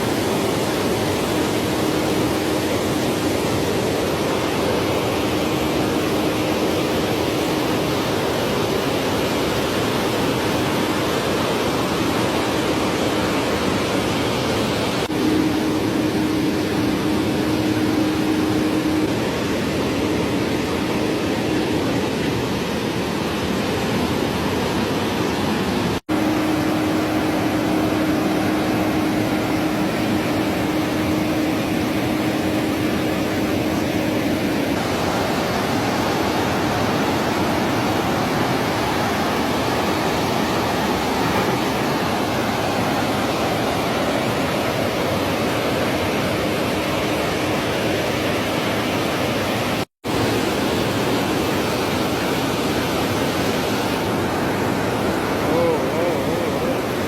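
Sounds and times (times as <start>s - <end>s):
water rushing through spillway: 0.0s - 57.0s.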